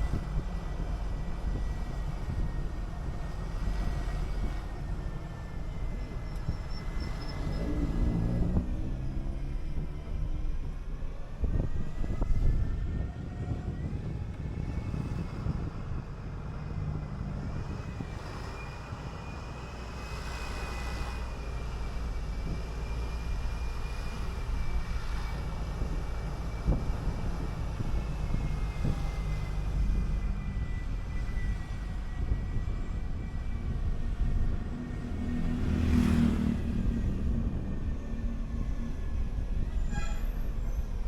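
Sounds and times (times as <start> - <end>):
bus engine rumble and whine: 0.0 - 41.0.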